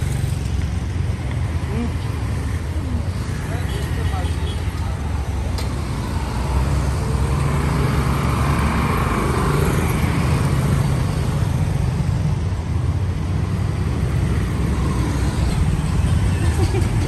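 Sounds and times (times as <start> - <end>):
motorbikes and cars passing: 0.0 - 17.0.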